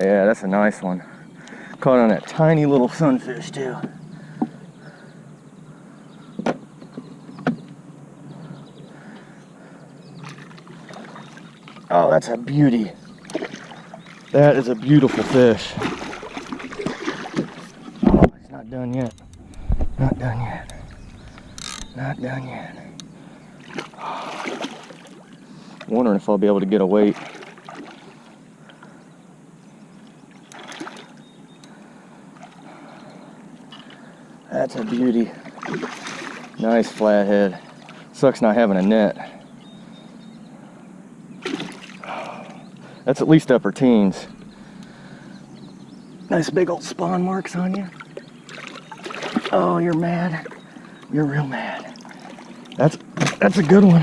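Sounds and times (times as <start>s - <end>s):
river water around kayak: 0.0s - 54.0s.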